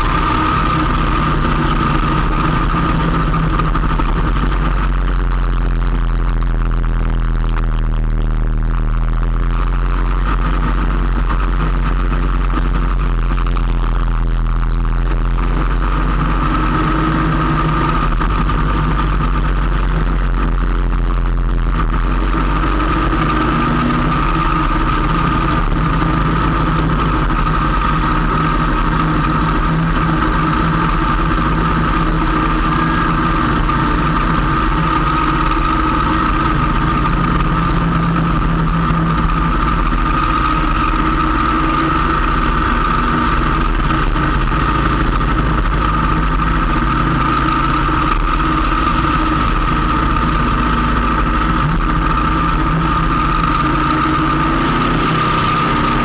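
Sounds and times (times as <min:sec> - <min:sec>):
constant high whine: 0:00.0 - 0:56.0
motorcycle engine cruising: 0:00.0 - 0:56.0
road and wind noise: 0:00.0 - 0:56.0.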